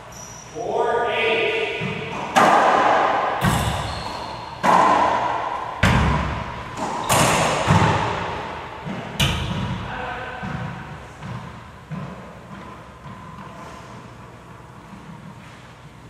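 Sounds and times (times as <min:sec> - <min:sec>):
racquet hitting ball: 0:01.5 - 0:15.6.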